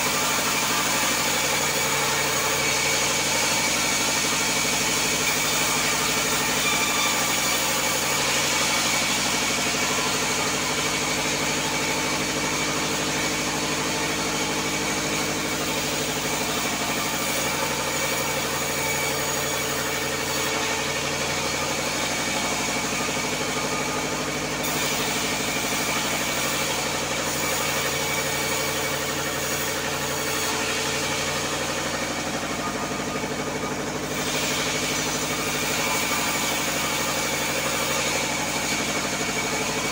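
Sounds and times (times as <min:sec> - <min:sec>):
band saw hum: 0:00.0 - 0:39.9
hiss of sawing wood: 0:00.0 - 0:39.9.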